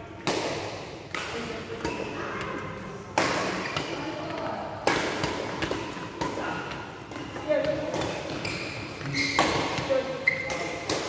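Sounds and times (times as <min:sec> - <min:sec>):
badminton racket hitting shuttlecock: 0:00.2 - 0:11.0.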